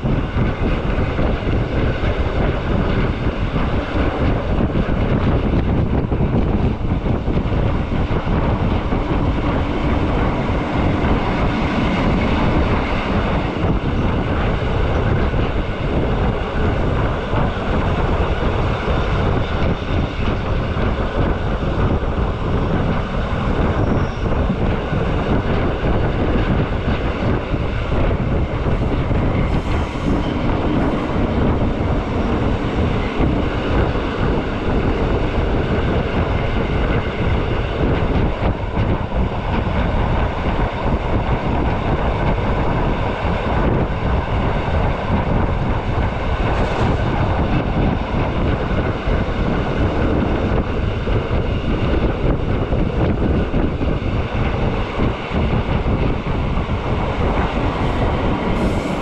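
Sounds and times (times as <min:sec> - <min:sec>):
train running on track: 0:00.0 - 0:59.0.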